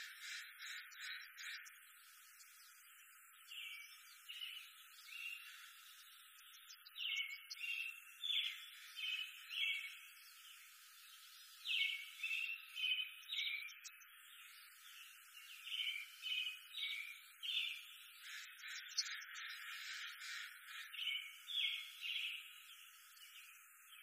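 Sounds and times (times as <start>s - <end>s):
faint steady hiss: 0.0s - 24.0s
high trilled bird chirping: 3.4s - 10.4s, 11.0s - 24.0s.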